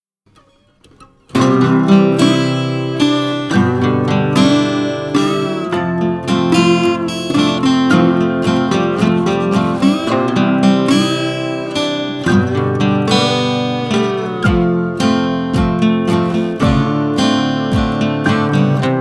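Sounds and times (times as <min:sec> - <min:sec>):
strummed acoustic guitar: 0:00.3 - 0:19.0.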